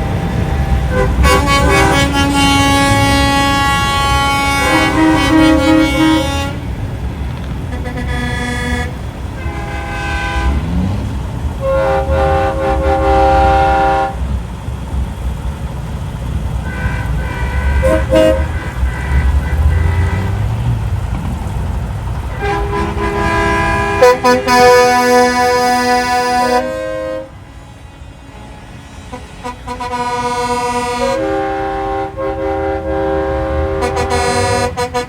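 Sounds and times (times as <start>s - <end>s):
truck air horn blasts: 0.0s - 14.4s, 16.6s - 20.8s, 22.3s - 35.0s
diesel engines rumbling: 0.0s - 35.0s.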